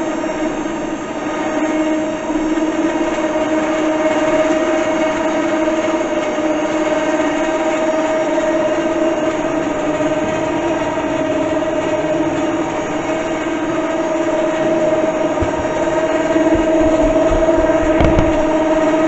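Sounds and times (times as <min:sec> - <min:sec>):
electric winch motor whining: 0:00.0 - 0:19.0.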